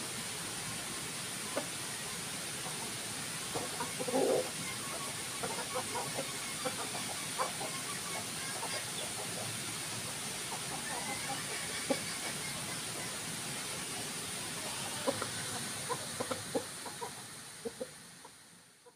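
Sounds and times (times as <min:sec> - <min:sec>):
steady hiss: 0:00.0 - 0:18.9
chickens clucking: 0:01.4 - 0:18.9.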